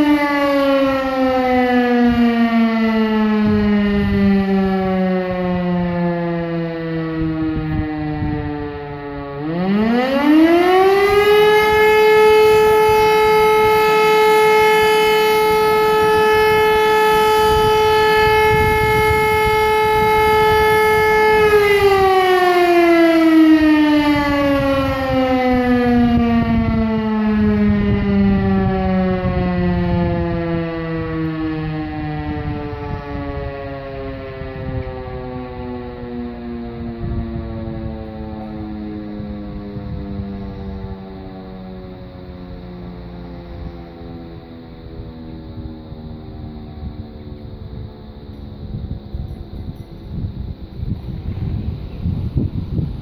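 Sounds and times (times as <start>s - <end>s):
civil defence siren wailing: 0.0s - 53.0s.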